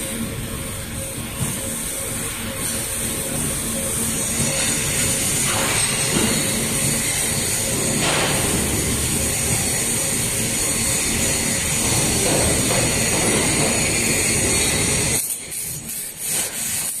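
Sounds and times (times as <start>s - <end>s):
robotic welding crackle and hiss: 0.0s - 17.0s.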